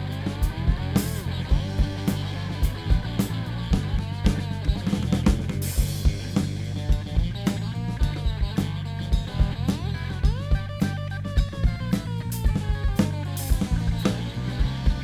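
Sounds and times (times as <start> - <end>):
bass guitar: 0.0 - 15.0
drum beat: 0.0 - 15.0.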